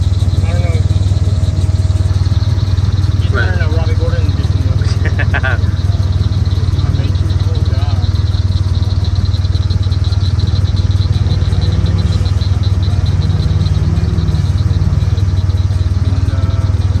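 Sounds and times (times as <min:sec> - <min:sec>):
second engine revving: 0:00.0 - 0:17.0
utility vehicle engine idling: 0:00.0 - 0:17.0.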